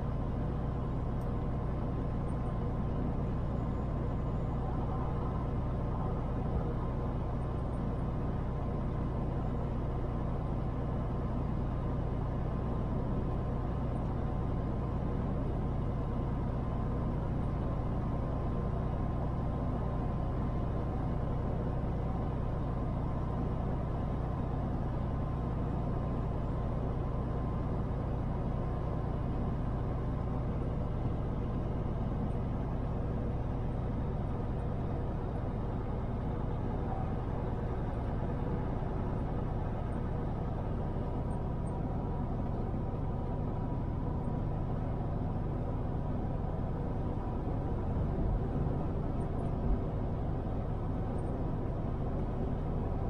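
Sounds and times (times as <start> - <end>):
diesel truck engine droning: 0.0 - 53.0.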